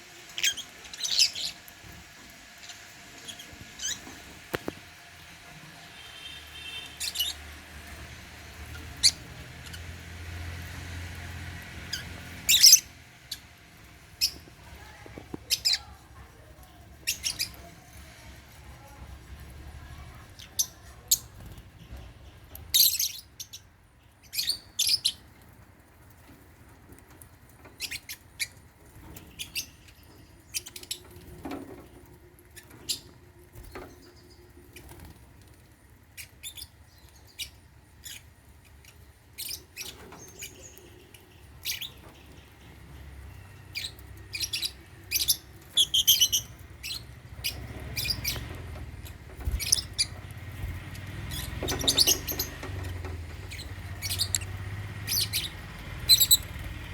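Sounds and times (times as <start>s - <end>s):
lovebirds chirping: 0.0s - 5.2s, 5.9s - 25.4s, 27.7s - 31.4s, 36.0s - 56.9s.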